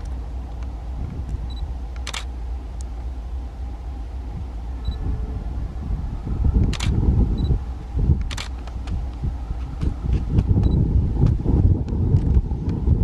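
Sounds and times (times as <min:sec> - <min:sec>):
wind buffeting microphone: 0:00.0 - 0:02.7, 0:03.6 - 0:13.0
distant freight train rumble: 0:00.0 - 0:13.0.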